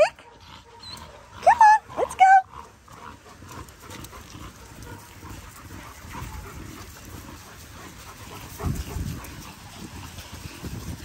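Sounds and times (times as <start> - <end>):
dogs breathing: 0.0 - 11.0.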